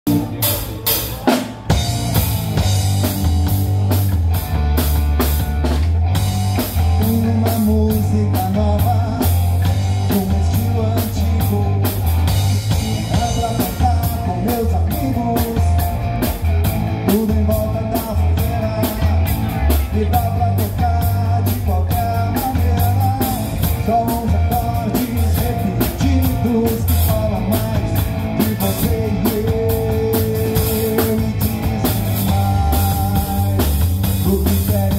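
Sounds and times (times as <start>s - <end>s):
drum kit beat: 0.0s - 34.9s
live rock band playing: 0.0s - 34.9s.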